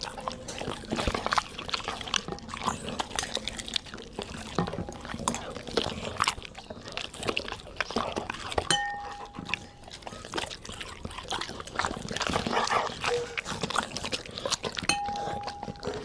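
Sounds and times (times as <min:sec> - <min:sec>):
dogs chewing wetly: 0:00.0 - 0:16.0.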